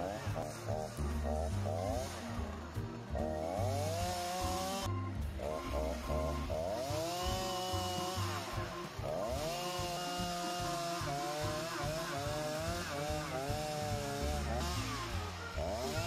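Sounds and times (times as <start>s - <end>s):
chainsaw revving and cutting wood: 0.0s - 16.0s.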